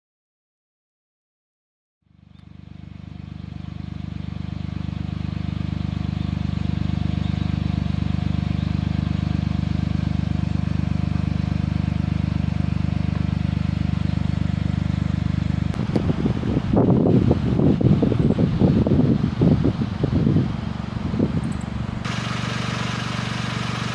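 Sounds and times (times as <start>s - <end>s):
small car engine running: 2.1s - 23.9s.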